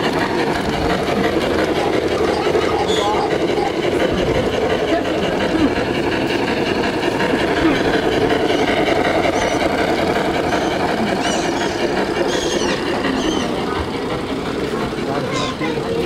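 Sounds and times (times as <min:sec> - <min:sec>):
crowd babble: 0:00.0 - 0:16.0.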